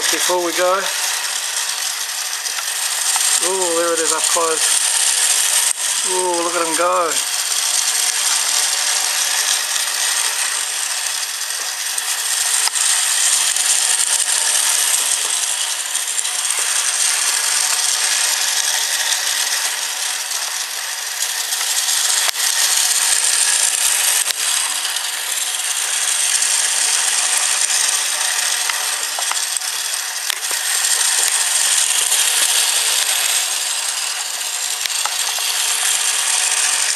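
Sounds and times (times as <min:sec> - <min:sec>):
toy train motor rattle and whir: 0:00.0 - 0:36.9.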